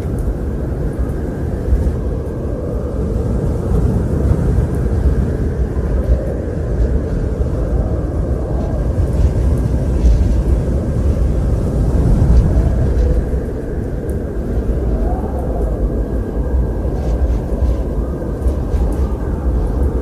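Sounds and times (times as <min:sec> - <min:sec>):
faint wind howl: 0:00.0 - 0:20.0
gusting wind rush: 0:00.0 - 0:20.0.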